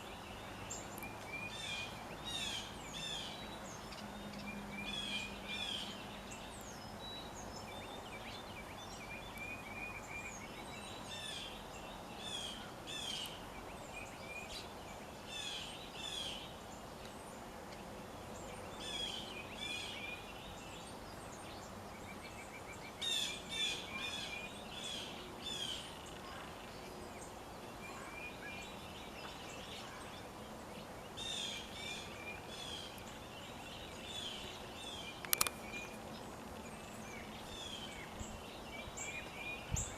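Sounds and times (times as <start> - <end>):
birds chirping and trilling: 0.0 - 39.9
steady outdoor hiss: 0.0 - 39.9.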